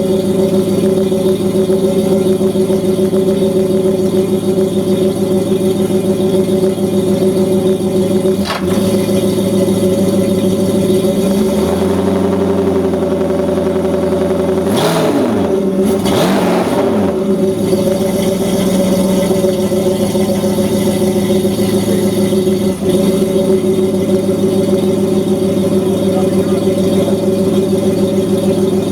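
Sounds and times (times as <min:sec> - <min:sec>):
outboard engine idling: 0:00.0 - 0:14.7, 0:15.5 - 0:28.9.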